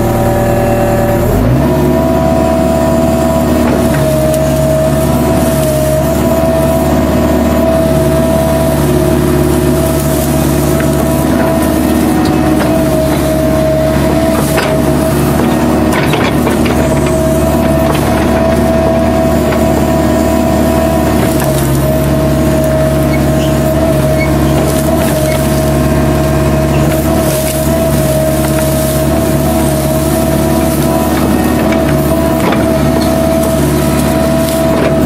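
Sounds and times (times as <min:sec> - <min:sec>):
excavator engine and hydraulics: 0:00.0 - 0:35.0.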